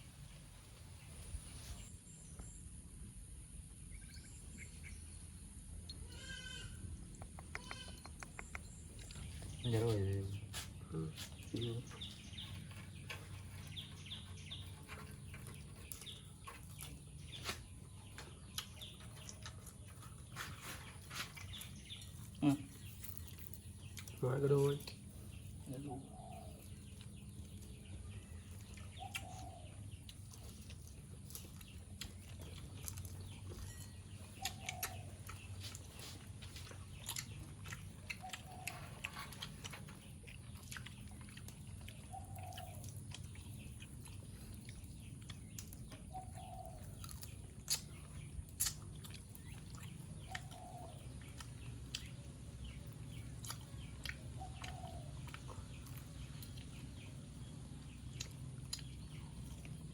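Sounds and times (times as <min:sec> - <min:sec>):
chewing with crunches: 0:03.9 - 0:59.9.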